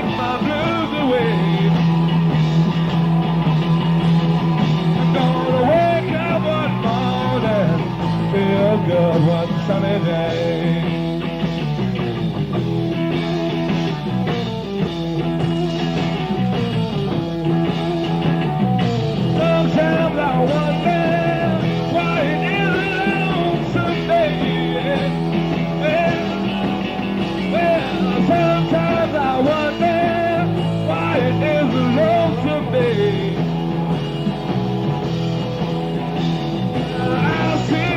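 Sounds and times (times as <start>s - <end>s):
live rock band playing: 0.0s - 37.9s.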